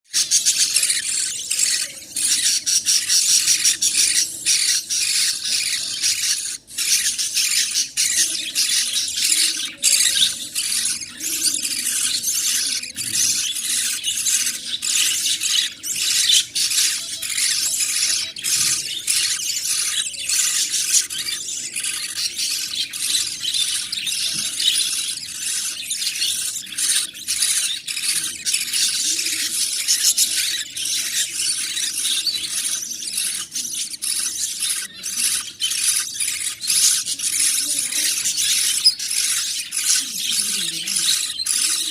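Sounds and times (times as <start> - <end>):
chicks cheeping: 0.1 - 41.9.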